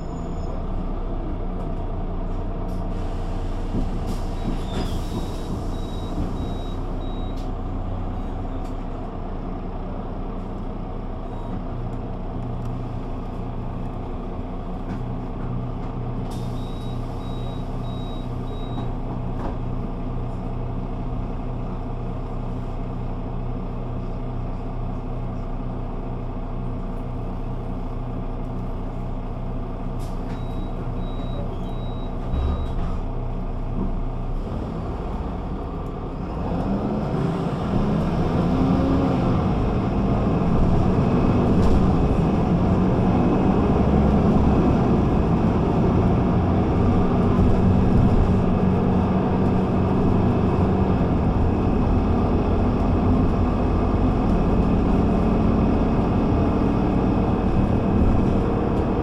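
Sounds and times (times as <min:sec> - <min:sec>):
bus engine idling and accelerating: 0:00.0 - 0:59.0.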